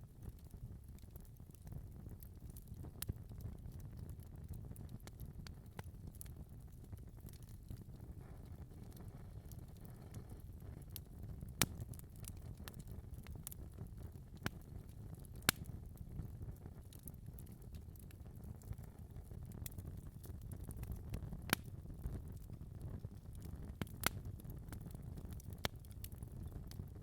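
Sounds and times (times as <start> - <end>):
fire crackling and popping: 0.0 - 27.0
fire flames rumbling: 0.1 - 27.0.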